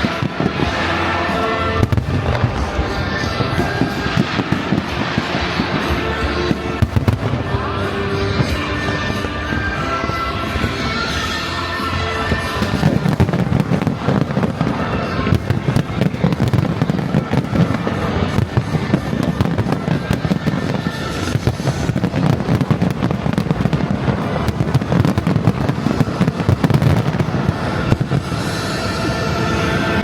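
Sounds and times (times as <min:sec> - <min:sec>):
fireworks crackling and banging: 0:00.0 - 0:30.0
music playing: 0:00.0 - 0:30.0.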